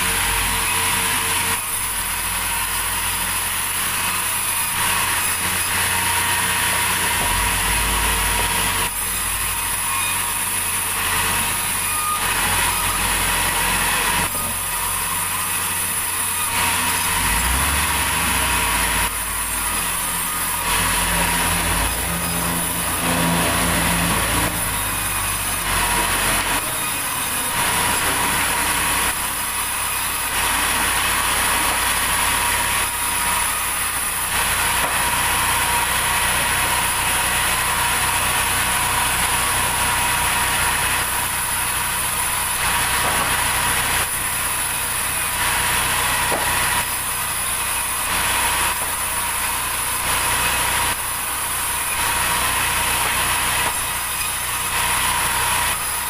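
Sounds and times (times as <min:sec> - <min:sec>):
sawmill engine drone: 0:00.0 - 0:56.0.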